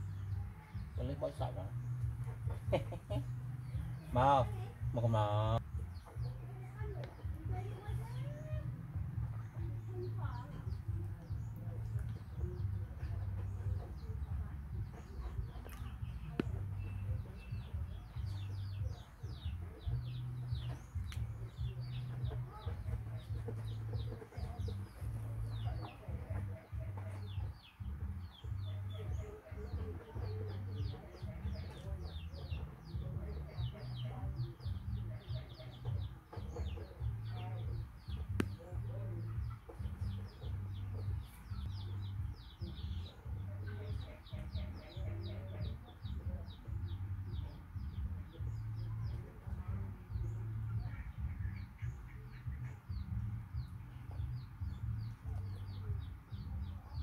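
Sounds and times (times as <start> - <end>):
chickens clucking: 1.0 - 8.4, 10.4 - 57.0.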